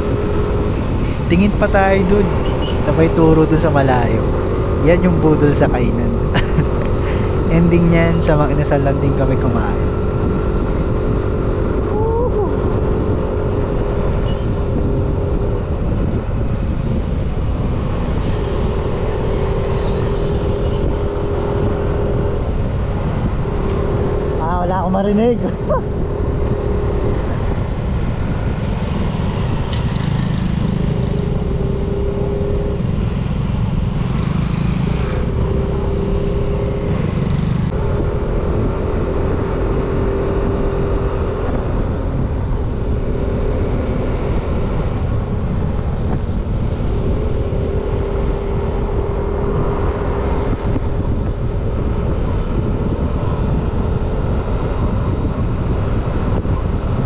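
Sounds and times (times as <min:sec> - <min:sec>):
scooter engine hum: 0:00.0 - 0:57.0
wind rumble on microphone: 0:00.0 - 0:57.0.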